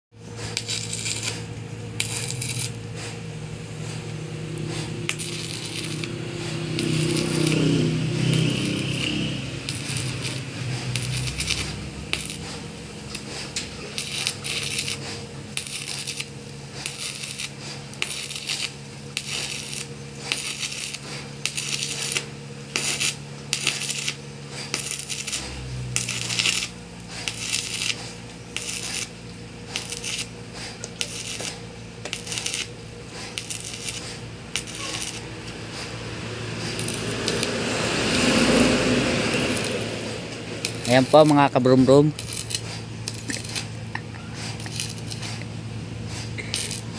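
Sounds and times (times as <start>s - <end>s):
low hum: 0.2s - 46.9s
welding arc crackling: 0.2s - 46.9s.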